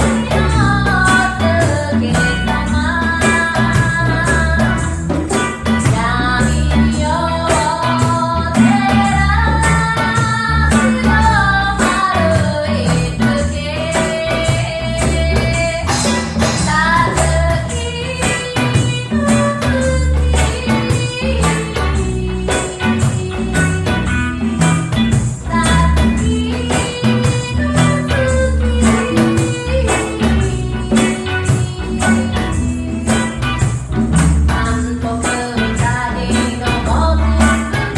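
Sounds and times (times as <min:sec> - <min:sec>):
heavy bass: 0:00.0 - 0:37.9
percussive beat: 0:00.0 - 0:37.9
person singing: 0:00.0 - 0:37.9
plucked strings: 0:00.0 - 0:37.9.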